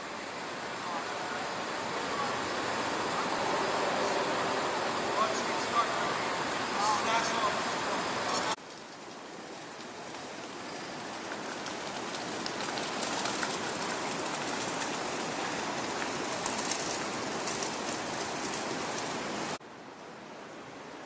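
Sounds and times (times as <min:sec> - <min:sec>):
city street ambience: 0:00.0 - 0:21.0.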